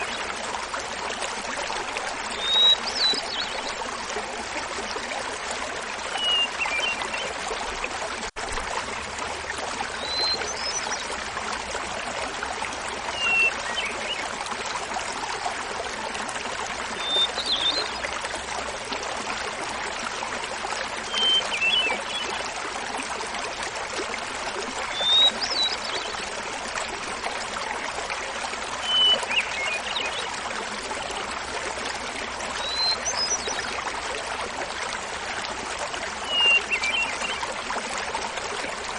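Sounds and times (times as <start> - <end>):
small waterfall rushing: 0.0 - 38.9.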